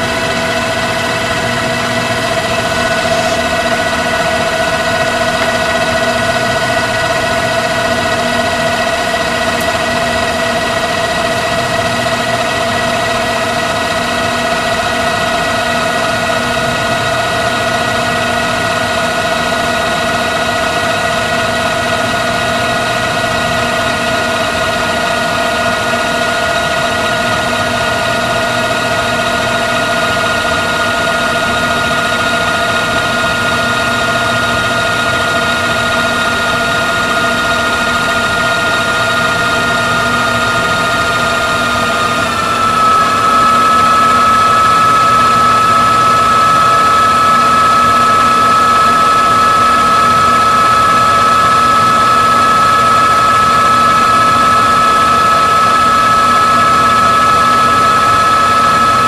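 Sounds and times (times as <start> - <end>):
tape fast-winding whine: 0.0 - 59.0.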